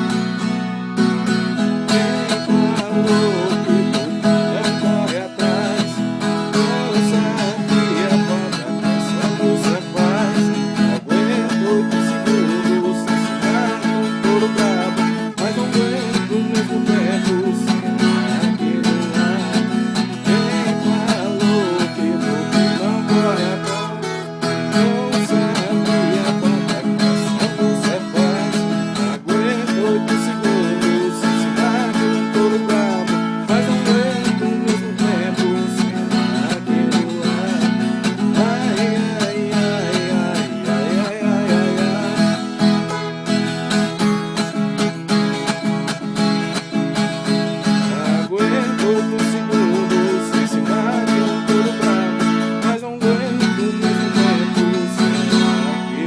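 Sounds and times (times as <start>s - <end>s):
plucked folk guitar melody: 0.0s - 56.0s.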